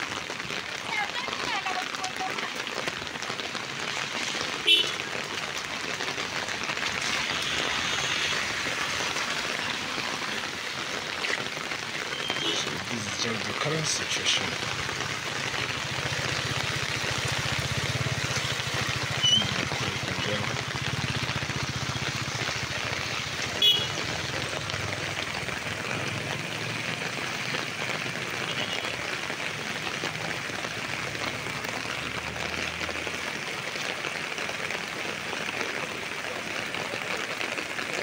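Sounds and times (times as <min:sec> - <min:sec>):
rushing water: 0:00.0 - 0:38.0.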